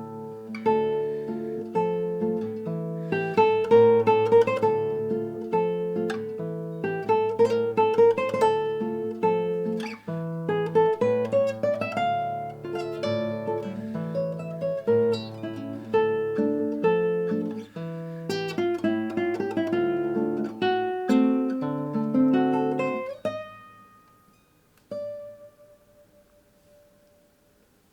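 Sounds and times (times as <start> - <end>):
acoustic guitar music: 0.0 - 27.9.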